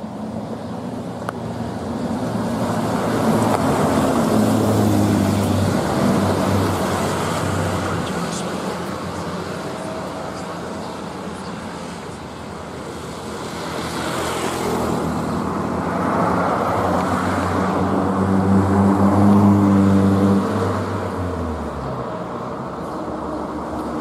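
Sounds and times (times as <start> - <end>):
bus passing with growling exhaust: 0.0 - 24.0
road noise: 0.0 - 24.0.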